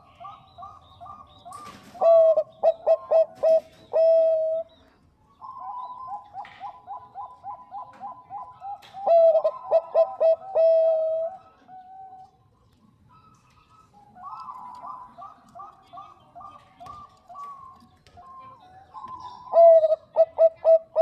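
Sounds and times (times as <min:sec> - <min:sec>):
dove cooing: 0:00.0 - 0:12.4, 0:13.1 - 0:21.0.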